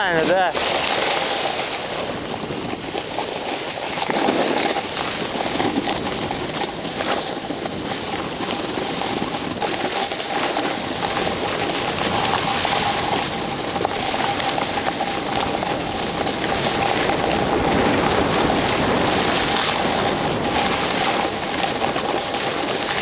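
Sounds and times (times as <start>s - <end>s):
skis sliding over snow: 0.0s - 23.0s
wind on microphone: 0.0s - 23.0s.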